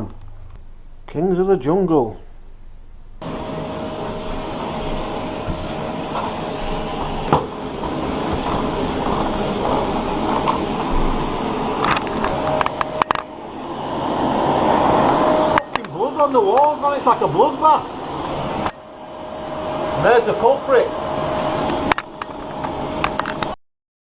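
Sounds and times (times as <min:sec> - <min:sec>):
machine motor whining: 0:03.2 - 0:23.6.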